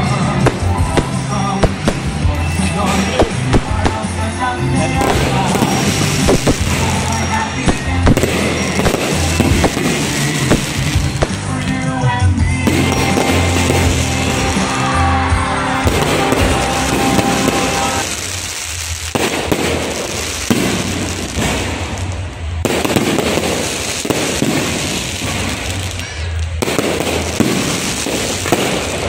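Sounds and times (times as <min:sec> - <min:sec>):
fireworks bursting and crackling: 0:00.0 - 0:29.0
music playing: 0:00.0 - 0:29.0.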